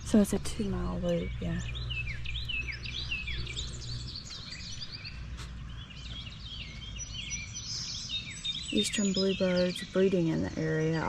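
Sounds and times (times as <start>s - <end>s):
songbirds chirping and singing: 0.0s - 11.0s.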